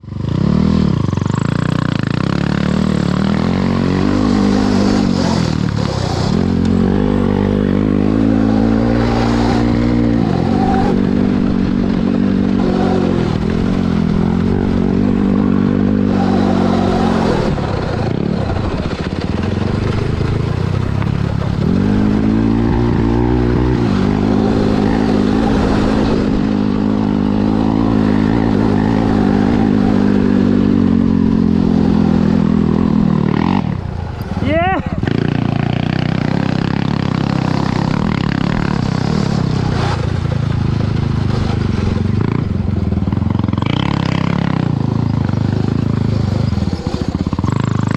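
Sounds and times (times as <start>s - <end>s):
dirt-bike engine revving: 0.0s - 47.9s.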